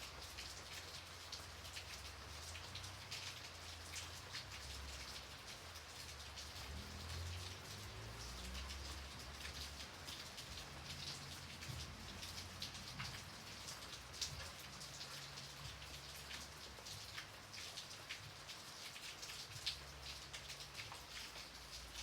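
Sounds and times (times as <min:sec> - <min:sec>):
light rain pattering: 0:00.0 - 0:22.0.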